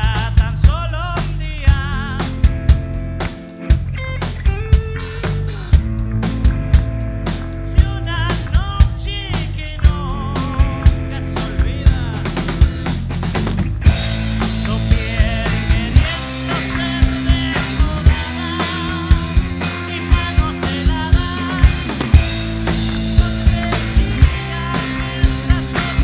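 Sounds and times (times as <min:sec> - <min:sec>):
drum kit rock rhythm: 0:00.0 - 0:26.0
live rock band playing: 0:00.0 - 0:26.0.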